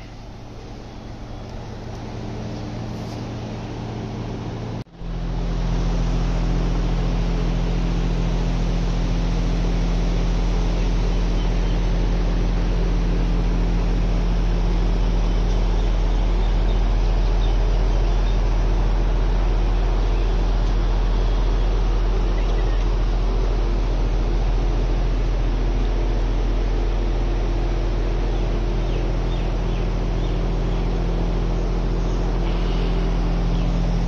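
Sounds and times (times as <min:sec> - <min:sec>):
electric fan running: 0:00.0 - 0:34.0.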